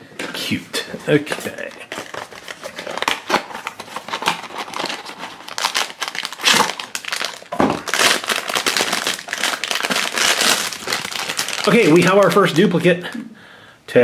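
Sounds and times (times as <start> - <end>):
foil bag crinkling: 1.4 - 12.9.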